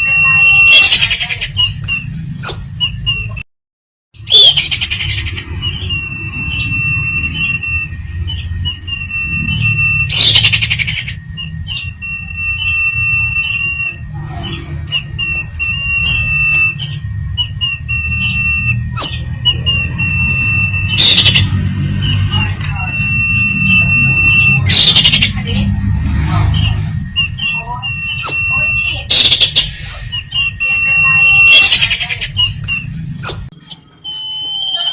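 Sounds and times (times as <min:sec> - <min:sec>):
bird whistling: 0:00.0 - 0:03.4, 0:04.2 - 0:34.9
harsh squawky bird bursts: 0:00.0 - 0:03.4, 0:04.2 - 0:34.9.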